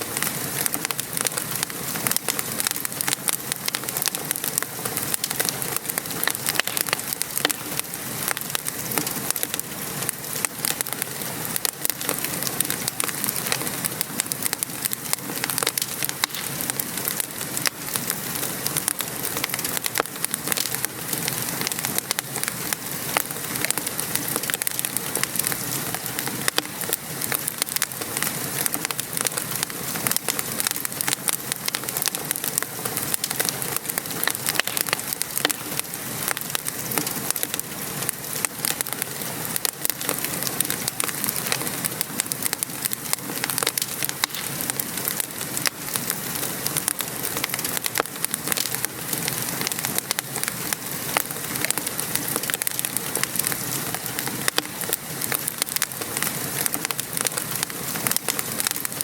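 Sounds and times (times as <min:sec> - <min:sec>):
fireplace crackling: 0:00.0 - 0:59.0
gentle rain patter: 0:00.0 - 0:59.0.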